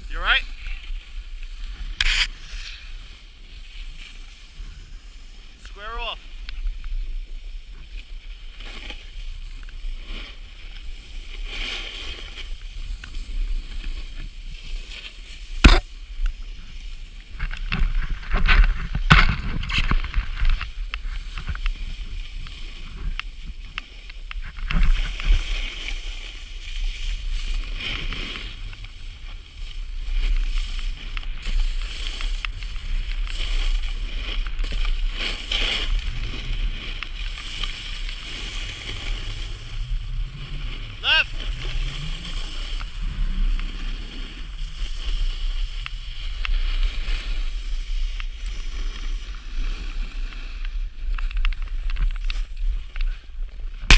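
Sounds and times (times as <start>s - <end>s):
skis scraping on snow: 0.0s - 53.9s.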